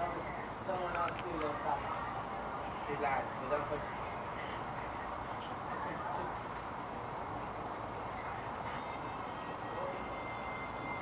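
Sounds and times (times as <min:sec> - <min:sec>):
insects chirping: 0:00.0 - 0:11.0
low background noise: 0:00.0 - 0:11.0.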